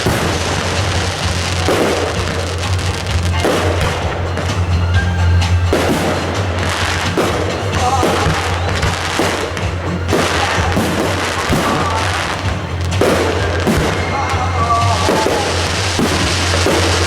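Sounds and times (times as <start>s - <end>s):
background music: 0.0s - 17.0s
fireworks bangs and crackles: 0.0s - 17.0s.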